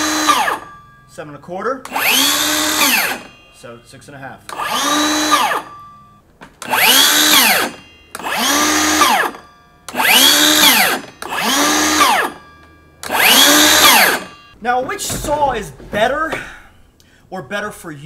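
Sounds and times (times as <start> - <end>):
circular saw whine: 0.0 - 14.6.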